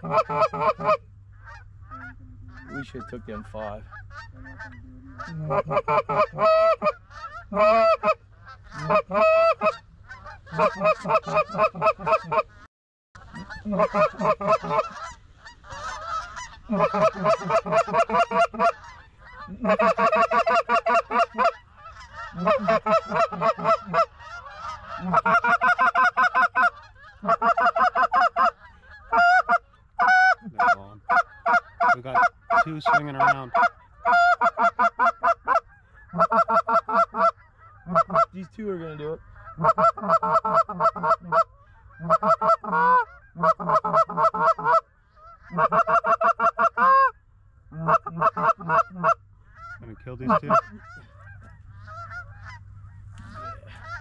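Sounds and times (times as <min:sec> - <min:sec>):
goose honking and clucking: 0:00.0 - 0:54.0.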